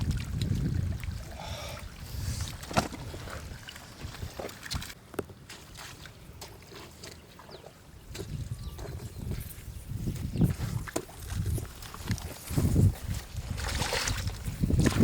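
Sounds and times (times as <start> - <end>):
water sloshing and splashing: 0.0 - 9.1, 10.0 - 15.0.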